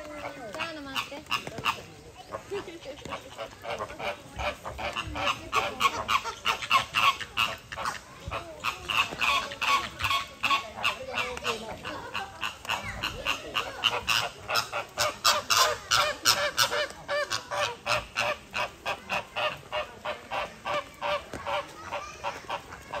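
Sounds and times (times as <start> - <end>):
flamingos honking: 0.0 - 23.0.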